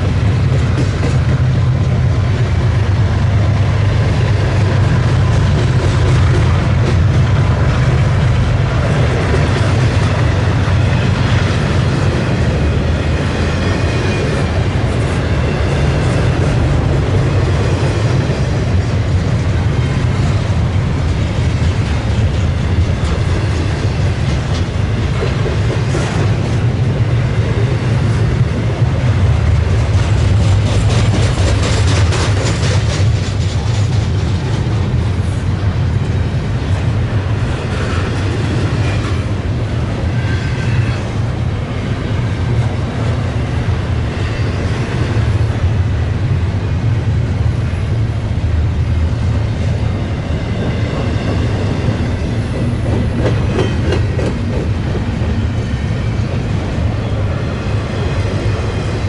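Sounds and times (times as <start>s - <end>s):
wheels clacking over rail joints: 0.0s - 45.8s, 49.3s - 59.0s
freight train rumble: 0.0s - 59.0s.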